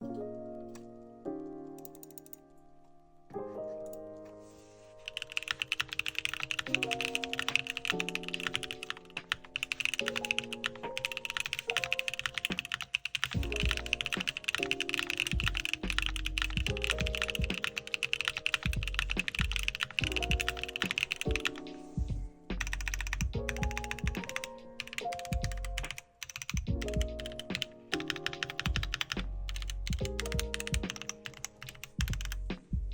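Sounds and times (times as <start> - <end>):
background music: 0.0 - 32.9
mechanical keyboard typing: 1.7 - 2.5, 5.1 - 21.8, 22.6 - 32.4.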